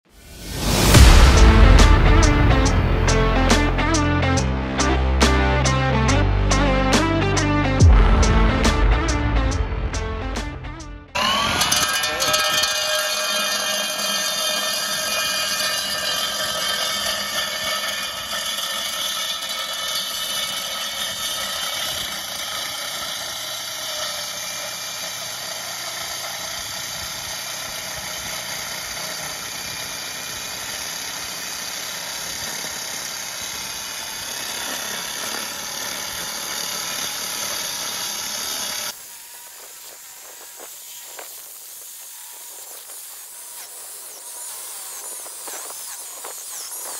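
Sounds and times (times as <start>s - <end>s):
core drill whining: 0.2s - 46.9s.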